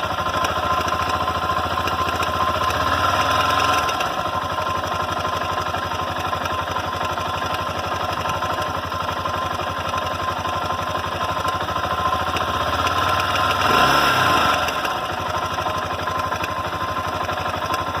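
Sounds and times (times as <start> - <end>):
motorcycle engine idling with hammering: 0.0 - 18.0.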